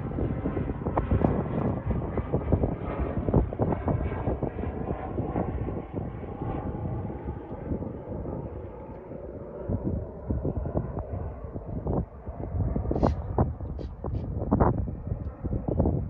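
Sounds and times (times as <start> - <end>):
propeller airplane engine: 0.0 - 16.0.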